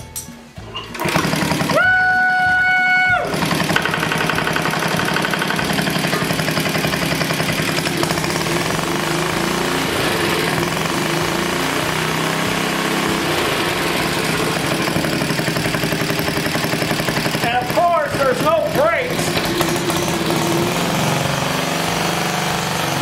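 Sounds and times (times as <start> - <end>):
lawn-mower engine idling: 0.6 - 23.0.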